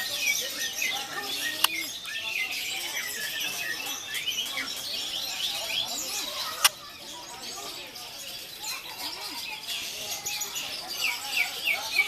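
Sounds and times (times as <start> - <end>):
songbirds chorus: 0.0 - 12.0.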